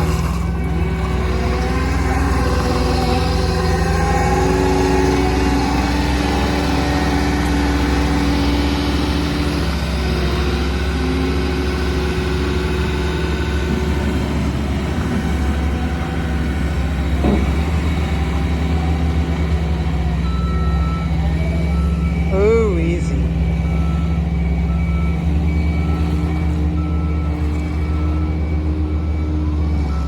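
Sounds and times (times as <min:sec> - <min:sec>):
loader engine running: 0:00.0 - 0:30.0.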